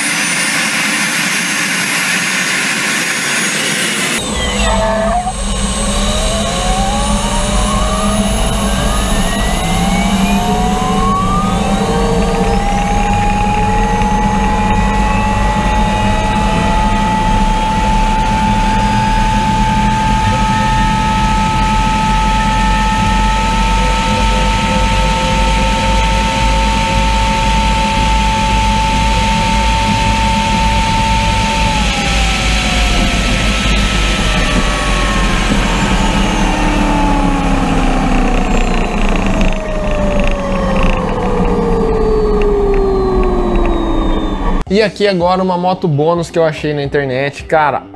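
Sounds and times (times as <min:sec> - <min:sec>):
turbine whine: 0:00.0 - 0:44.8.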